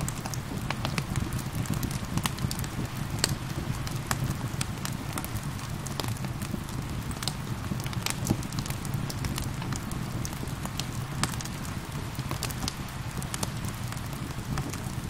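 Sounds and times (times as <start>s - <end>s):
fire crackling and popping: 0.0s - 15.0s
rain pattering: 0.0s - 15.0s.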